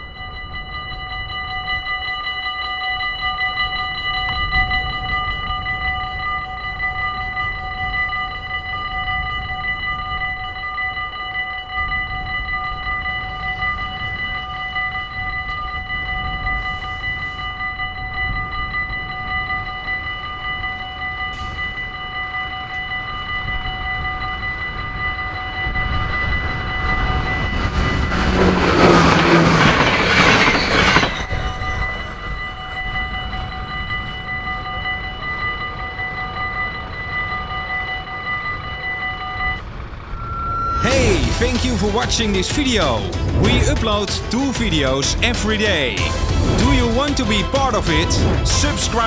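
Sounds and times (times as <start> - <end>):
level crossing warning bells: 0.0 - 49.0
train passing rumble: 0.0 - 49.0.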